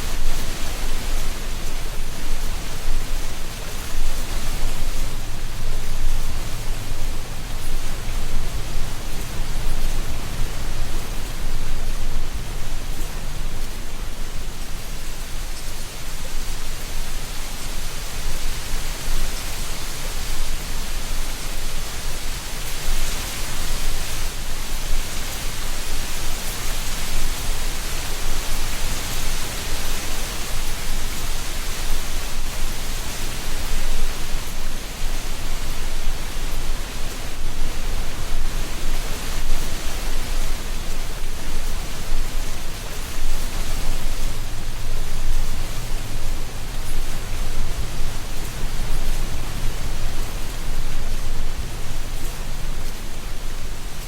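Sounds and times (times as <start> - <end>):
wind rustling dry leaves: 0.0 - 54.0.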